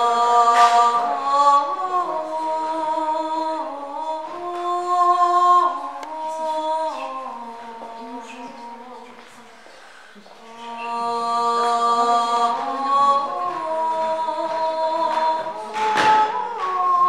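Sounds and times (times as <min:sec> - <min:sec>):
voices singing a cappella: 0:00.0 - 0:17.0.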